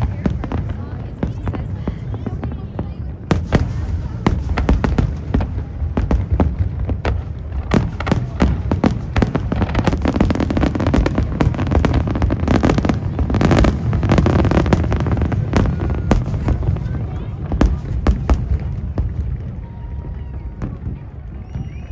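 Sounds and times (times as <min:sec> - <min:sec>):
fireworks bangs: 0:00.0 - 0:21.9
fireworks crackling: 0:00.0 - 0:21.9.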